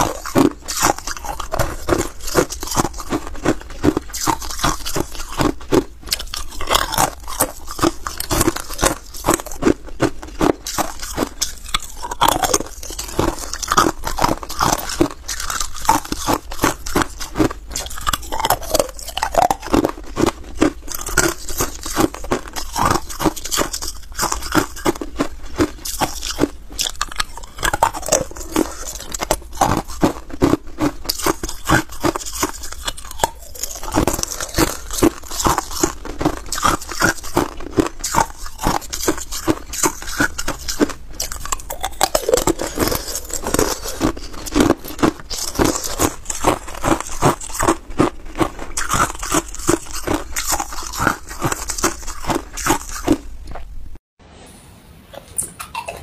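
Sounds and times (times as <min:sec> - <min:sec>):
ice cubes being chewed: 0:00.0 - 0:54.0.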